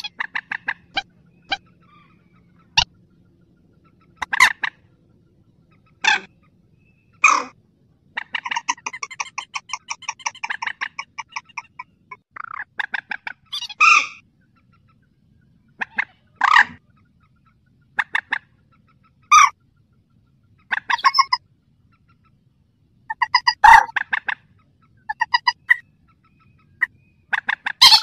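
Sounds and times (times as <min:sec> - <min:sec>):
rail bird calling: 0:00.0 - 0:28.0.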